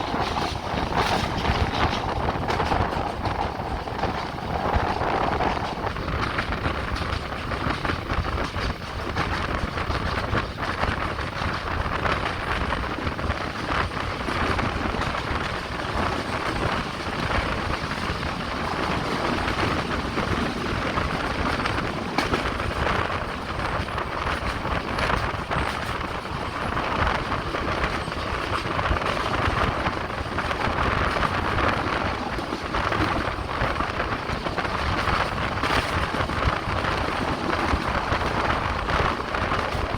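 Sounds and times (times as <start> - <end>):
train wheels and rushing air: 0.0 - 39.9.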